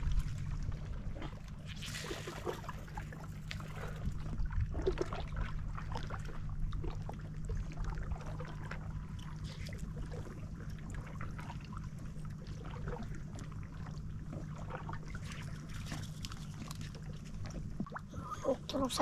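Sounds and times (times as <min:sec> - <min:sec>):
small splashes and ticks: 0:00.0 - 0:18.1
steady low hum: 0:00.0 - 0:19.0
water lapping against boat: 0:00.0 - 0:19.0.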